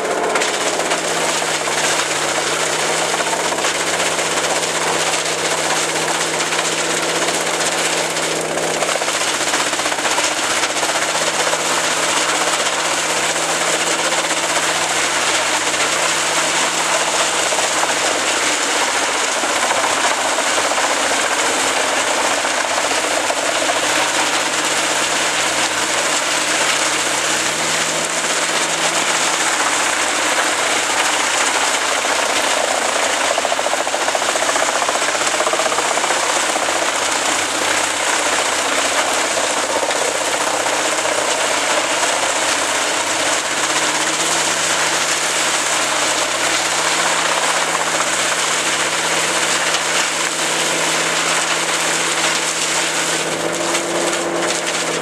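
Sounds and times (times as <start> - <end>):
engine running steadily: 0.0 - 55.0
wood chipper shredding branches: 0.0 - 55.0.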